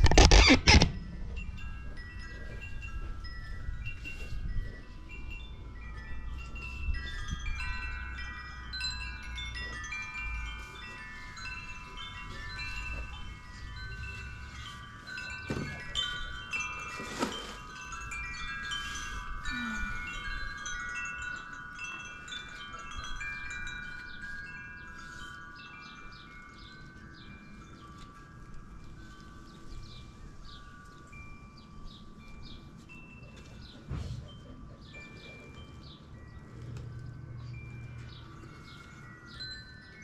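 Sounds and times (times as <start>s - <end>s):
metal wind chimes ringing: 0.2s - 40.0s.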